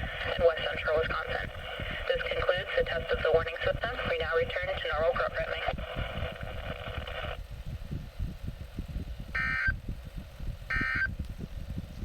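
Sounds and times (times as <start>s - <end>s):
low radio rumble: 0.0s - 12.0s.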